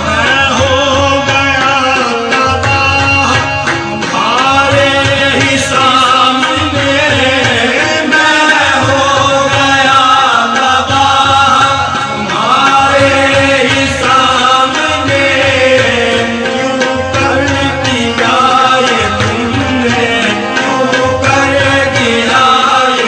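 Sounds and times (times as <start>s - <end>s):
tabla beat: 0.0s - 23.0s.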